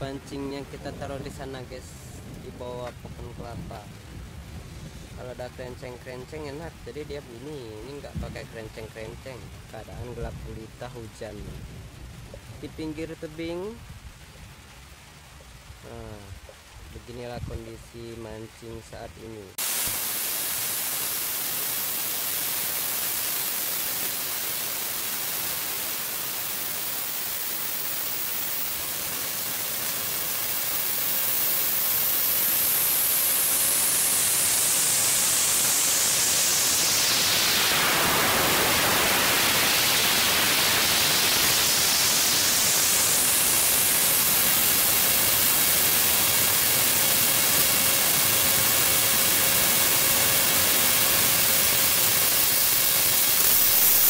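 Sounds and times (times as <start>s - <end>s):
static hiss: 0.0s - 54.0s.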